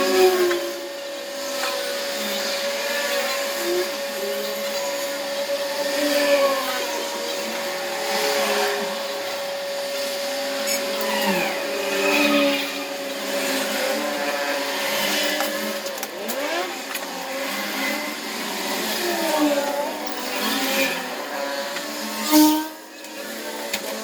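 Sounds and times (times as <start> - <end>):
small electric motor whine: 0.0 - 24.0.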